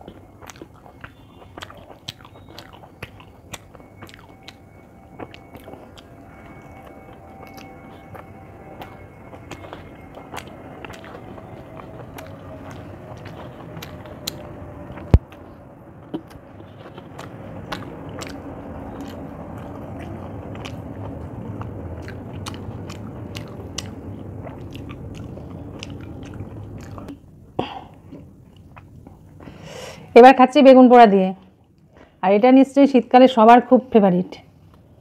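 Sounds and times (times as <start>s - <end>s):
chewing rice: 0.0s - 27.2s, 27.9s - 29.6s.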